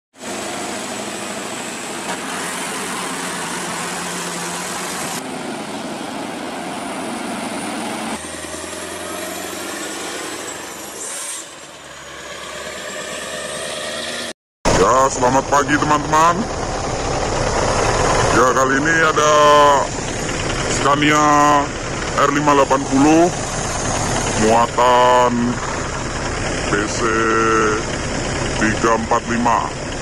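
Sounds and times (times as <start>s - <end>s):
road noise: 0.1s - 30.0s
truck diesel engine under load: 0.1s - 30.0s.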